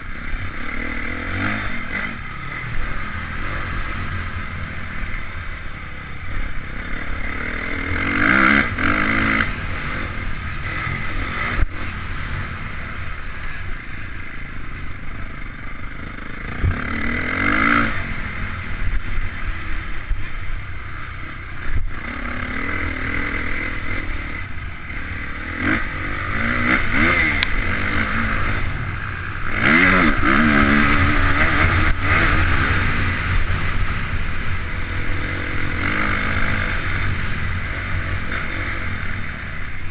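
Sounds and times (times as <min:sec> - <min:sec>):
motocross engine revving: 0:00.0 - 0:05.6, 0:06.2 - 0:39.9.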